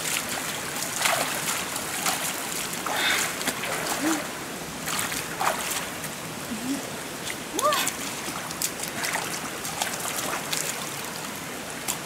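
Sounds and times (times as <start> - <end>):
feet wading through water: 0.0 - 12.0
running water: 0.0 - 12.0.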